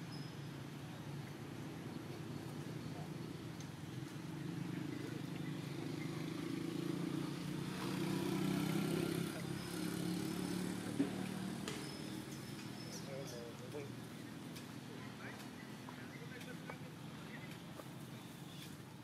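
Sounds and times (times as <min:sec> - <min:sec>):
distant vehicle engine hum: 0:00.0 - 0:19.0.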